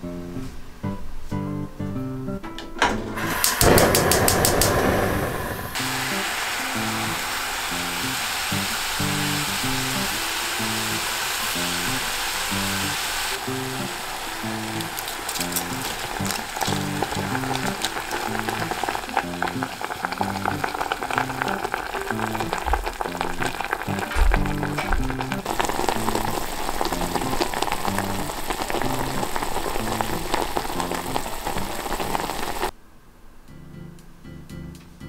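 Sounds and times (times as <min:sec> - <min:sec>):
background music: 0:00.0 - 0:03.9, 0:05.8 - 0:32.5
greens sizzling in a pot: 0:03.2 - 0:32.7.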